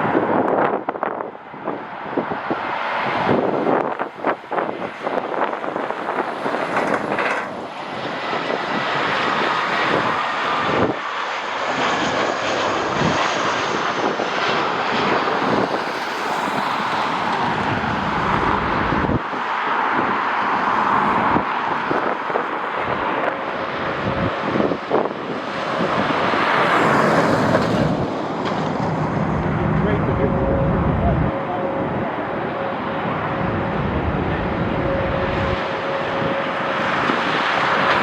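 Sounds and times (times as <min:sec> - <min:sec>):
jet engines running: 0:00.0 - 0:38.0
wind buffeting microphone: 0:00.0 - 0:38.0.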